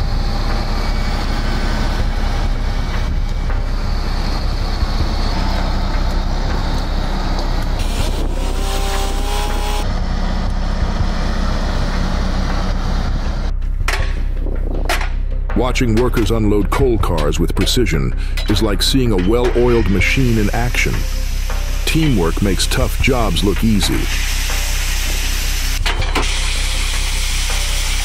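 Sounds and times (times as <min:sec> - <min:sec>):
high whine: 0:00.0 - 0:28.0
tractor engines running under load: 0:00.0 - 0:28.0.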